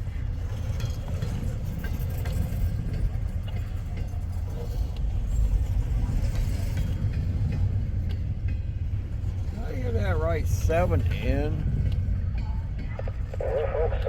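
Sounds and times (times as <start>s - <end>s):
low engine rumble: 1.4s - 14.0s.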